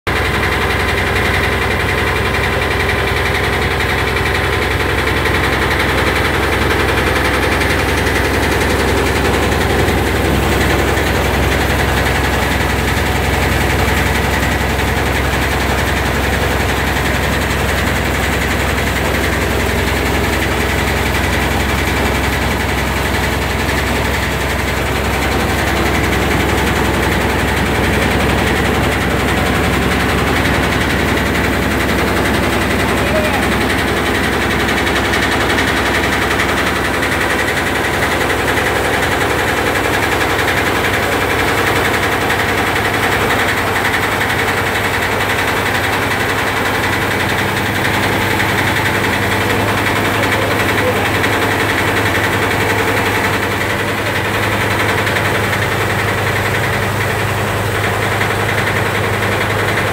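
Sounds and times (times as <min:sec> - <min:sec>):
thresher running: 0:00.1 - 0:59.9.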